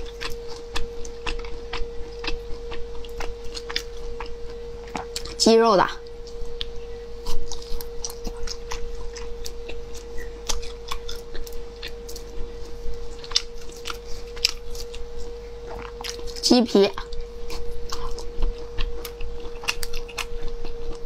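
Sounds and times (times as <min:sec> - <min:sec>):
wet mouth chewing: 0:00.0 - 0:05.4, 0:06.2 - 0:16.4, 0:17.0 - 0:21.0
faint steady hum: 0:00.0 - 0:21.0.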